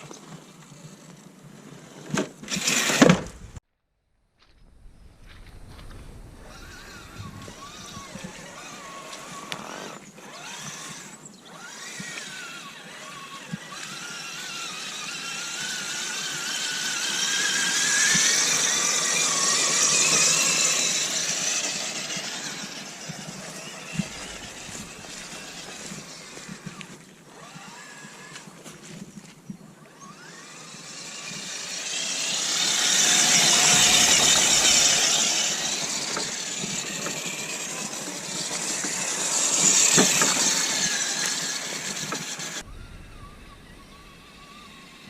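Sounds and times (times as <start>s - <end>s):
electric motor and gears whining: 0.0s - 3.6s, 4.6s - 29.2s, 29.8s - 45.0s.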